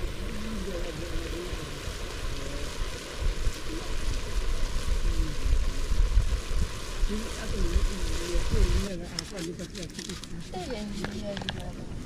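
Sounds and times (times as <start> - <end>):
meat simmering hiss: 0.0 - 12.0
wind rumbling on microphone: 0.0 - 12.0.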